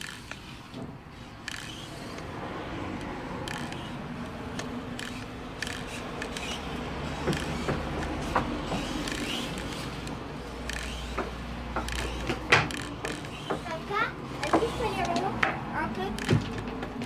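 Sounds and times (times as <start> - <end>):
sharp clicks: 0.0 - 0.6, 1.3 - 13.8, 14.4 - 17.0
toy car motor whirring: 0.0 - 15.3.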